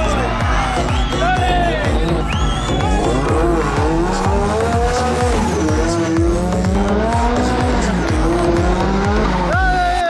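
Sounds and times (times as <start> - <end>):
hip-hop music: 0.0 - 10.0
rally car engine revving: 0.0 - 10.0.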